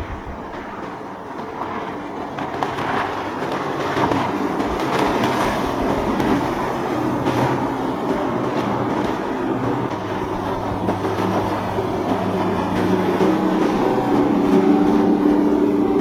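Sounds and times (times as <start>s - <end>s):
boat engines running: 0.0s - 16.0s
rushing water: 0.0s - 16.0s.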